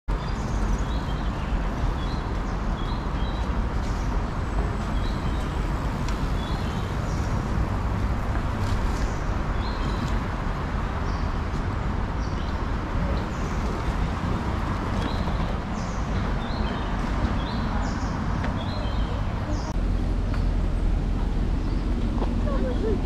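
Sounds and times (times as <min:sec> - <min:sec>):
birds chirping: 0:00.1 - 0:23.0
low rumble of city traffic: 0:00.1 - 0:23.0.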